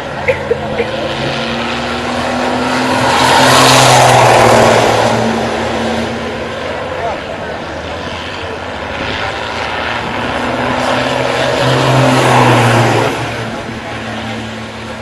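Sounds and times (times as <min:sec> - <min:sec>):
racing engine passing by: 0:00.5 - 0:15.0.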